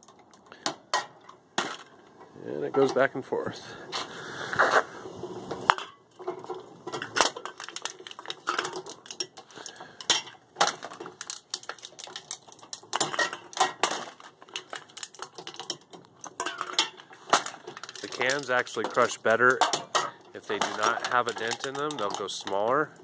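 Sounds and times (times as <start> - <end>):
flattened cans clattering: 0.0 - 3.1, 5.4 - 23.0
metallic clanks and crunches: 0.0 - 3.1, 4.6 - 23.0.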